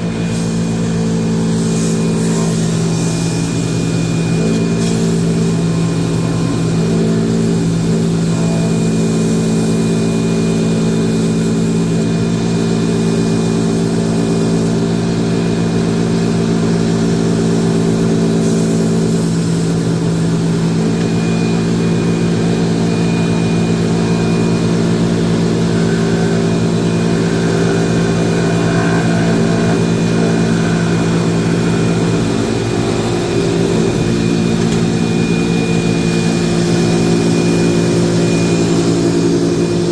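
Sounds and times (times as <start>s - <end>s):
electric motor humming: 0.0s - 39.9s.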